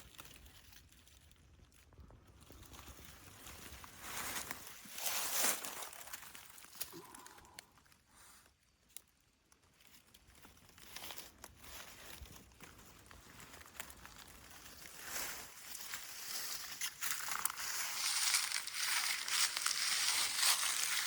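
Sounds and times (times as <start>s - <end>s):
rustling and crinkling: 0.0s - 21.0s.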